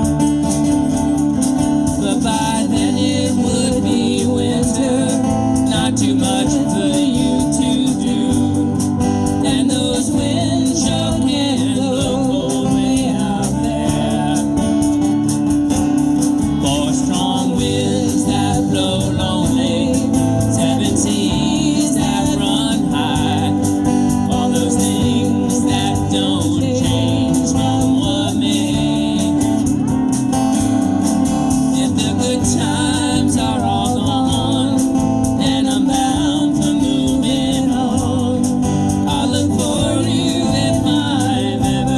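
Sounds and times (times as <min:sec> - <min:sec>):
live band playing folk song: 0:00.0 - 0:41.9
person singing: 0:01.9 - 0:15.2, 0:16.6 - 0:29.8, 0:31.6 - 0:41.9.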